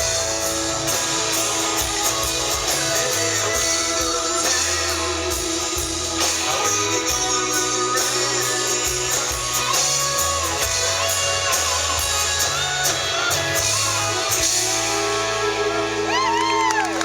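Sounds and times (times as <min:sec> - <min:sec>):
crowd whistling and cheering: 0:00.0 - 0:17.0
drums: 0:00.0 - 0:17.0
live country band playing: 0:00.0 - 0:17.0.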